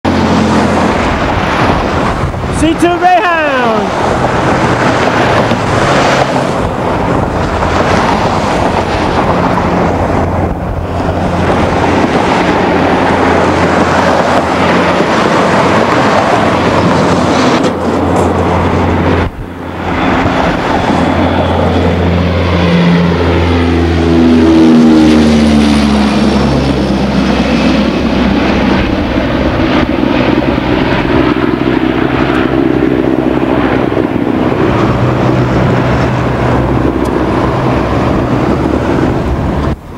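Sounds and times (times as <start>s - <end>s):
turboprop aircraft propeller drone: 0.0s - 39.9s.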